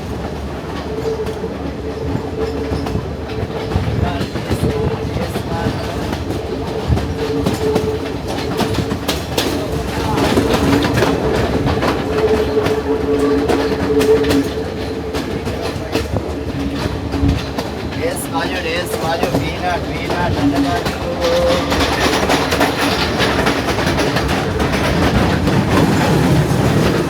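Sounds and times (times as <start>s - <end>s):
train rumble: 0.0s - 27.0s
wheels clicking over rail joints: 0.0s - 27.0s.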